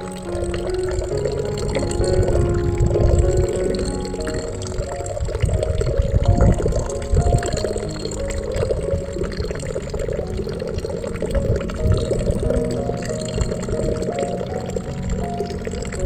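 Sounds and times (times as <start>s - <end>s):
running water gurgling: 0.0s - 16.0s
soft background music: 0.0s - 16.0s.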